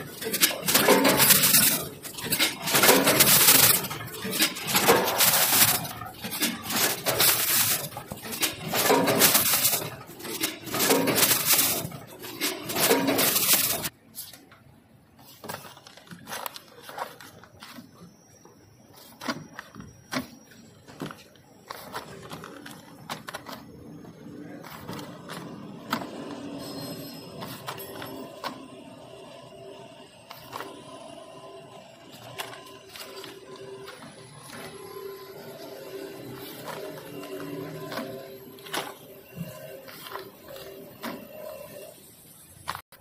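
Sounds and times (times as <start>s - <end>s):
packing machine mechanical clatter: 0.0s - 13.9s, 15.2s - 43.0s
plastic packets rustling: 0.0s - 14.4s, 15.2s - 28.6s, 32.0s - 42.0s.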